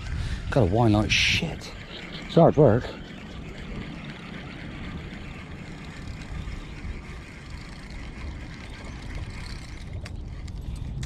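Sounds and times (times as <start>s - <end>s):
small boat rumble and rush: 0.0s - 11.0s.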